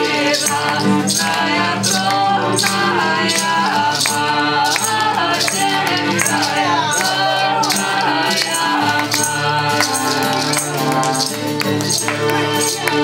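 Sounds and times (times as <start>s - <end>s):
rattling percussion beat: 0.0s - 13.0s.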